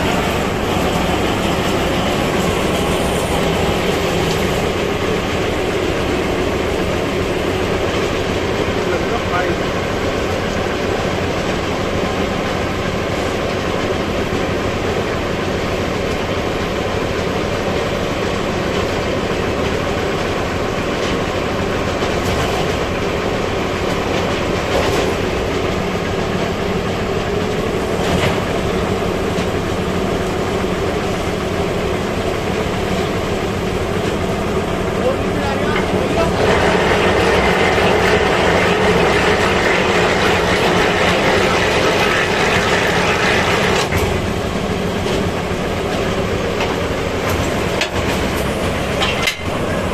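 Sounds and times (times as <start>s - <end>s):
machinery rumbling: 0.0s - 49.9s.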